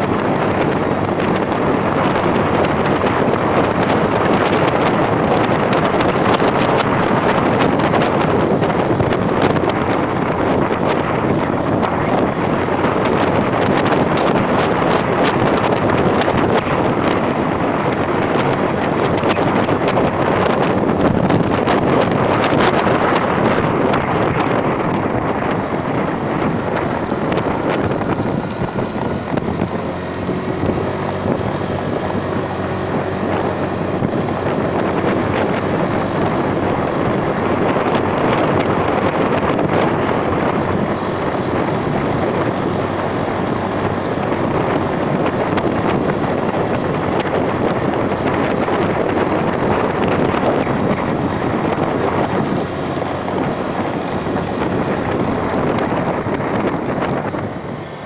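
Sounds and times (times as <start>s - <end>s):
vehicle engine running: 0.0s - 58.0s
wind buffeting microphone: 0.0s - 58.0s.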